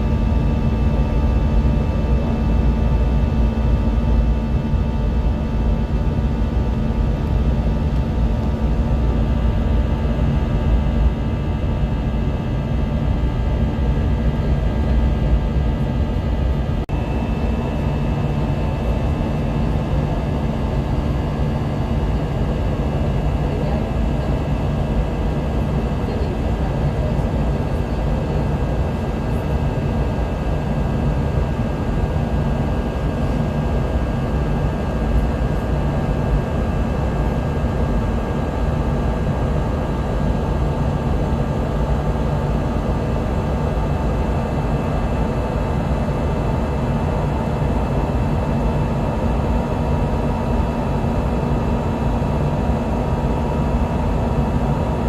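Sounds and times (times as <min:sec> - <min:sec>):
airplane cabin engine and airflow rush: 0:00.0 - 0:55.0.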